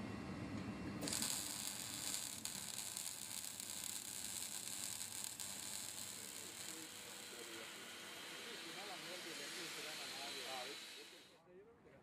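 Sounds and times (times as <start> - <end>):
faint arc crackles: 1.0 - 11.0
welding arc hissing: 1.0 - 11.3.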